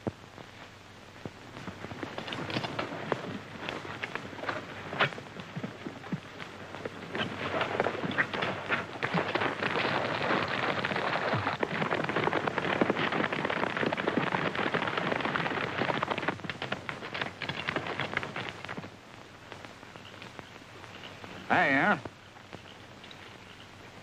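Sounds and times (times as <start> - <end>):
horses galloping: 0.0 - 24.0.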